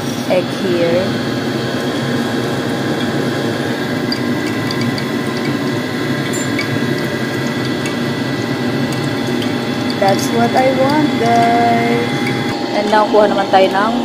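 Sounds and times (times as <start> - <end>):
machine humming and rushing: 0.0 - 14.0.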